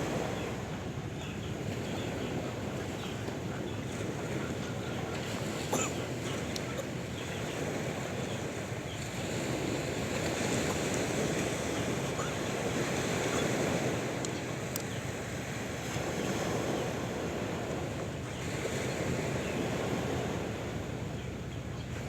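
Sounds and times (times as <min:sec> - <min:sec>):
surf rushing on shore: 0:00.0 - 0:22.0
wind: 0:00.0 - 0:22.0.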